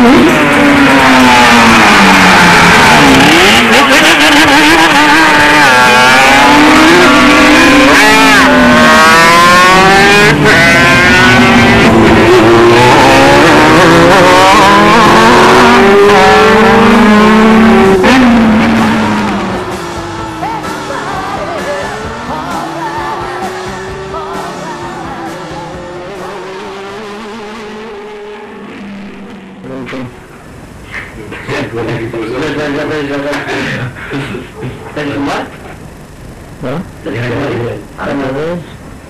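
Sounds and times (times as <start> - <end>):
racing motorcycle engines: 0.0 - 39.0.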